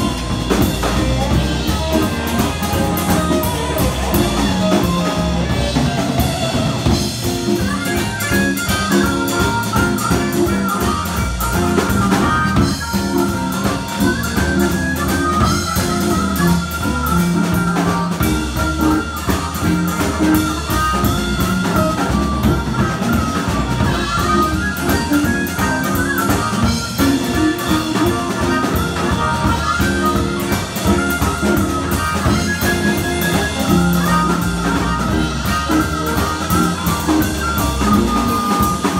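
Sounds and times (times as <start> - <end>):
drum kit: 0.0 - 38.9
electric bass: 0.0 - 38.9
electric guitar: 0.0 - 38.9
harmonica bending notes: 0.0 - 38.9.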